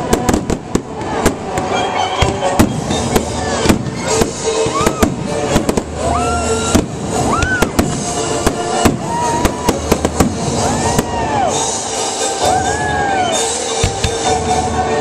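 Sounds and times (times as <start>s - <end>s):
fireworks bangs and crackles: 0.0s - 12.2s, 13.6s - 14.7s
music playing: 0.0s - 15.0s.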